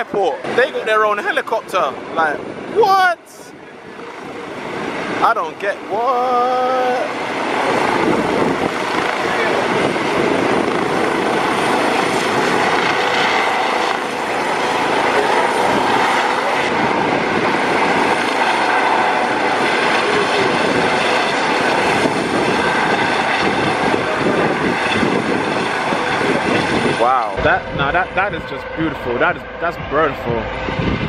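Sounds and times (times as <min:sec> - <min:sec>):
helicopter rotor and turbine: 0:00.0 - 0:31.0
high-pitched turbine whine: 0:00.0 - 0:31.0.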